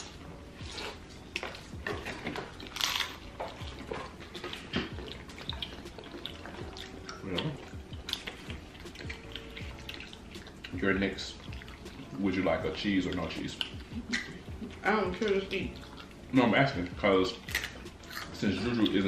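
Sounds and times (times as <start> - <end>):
people chewing crunchy tacos: 0.0 - 19.0.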